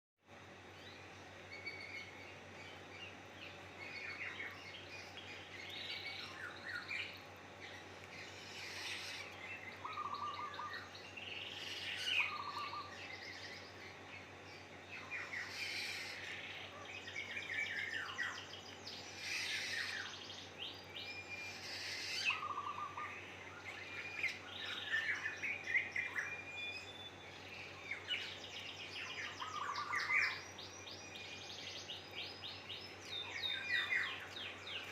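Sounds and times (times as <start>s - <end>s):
bird chirping in bursts: 0.6s - 34.9s.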